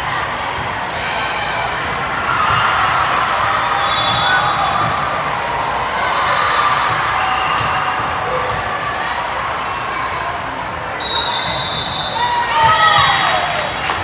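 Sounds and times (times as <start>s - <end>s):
hubbub of crowd and player voices: 0.0s - 14.0s.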